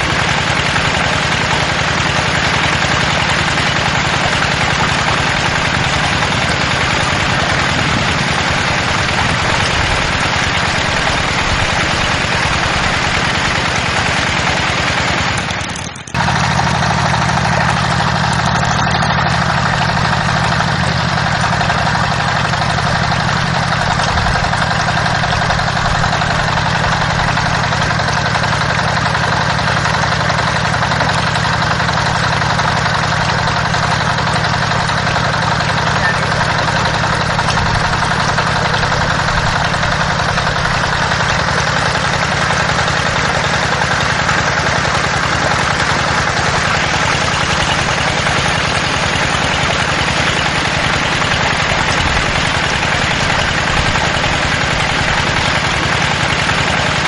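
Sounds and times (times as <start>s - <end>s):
small pump motor humming: 0.0s - 57.0s
water splashing onto gravel: 0.0s - 57.0s.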